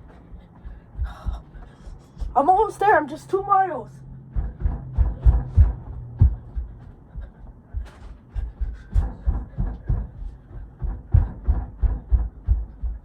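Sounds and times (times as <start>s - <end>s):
running footsteps: 0.0s - 3.1s, 4.0s - 13.0s.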